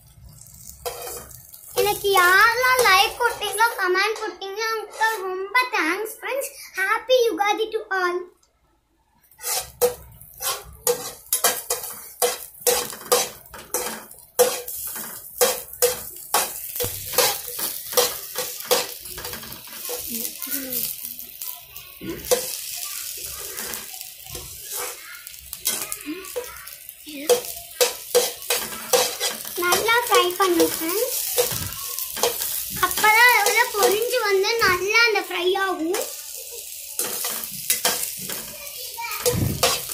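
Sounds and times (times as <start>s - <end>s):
oil sizzling: 0.0s - 6.6s, 9.1s - 39.9s
spoon scraping a pan: 0.3s - 5.4s, 9.3s - 21.2s, 22.0s - 26.7s, 27.3s - 34.2s, 35.9s - 39.9s.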